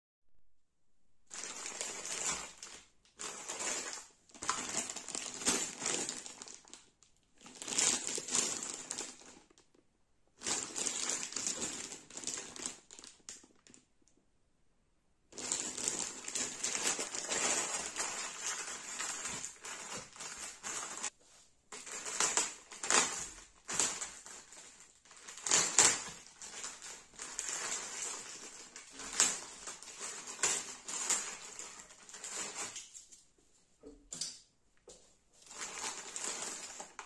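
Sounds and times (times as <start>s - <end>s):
plastic bag crinkling: 1.3s - 9.7s, 10.4s - 13.8s, 15.4s - 33.1s, 35.4s - 37.0s.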